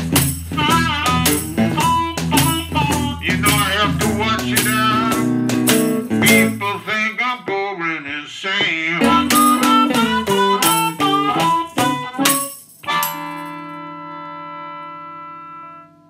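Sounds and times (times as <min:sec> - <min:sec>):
blues band playing: 0:00.0 - 0:07.1, 0:08.6 - 0:16.0.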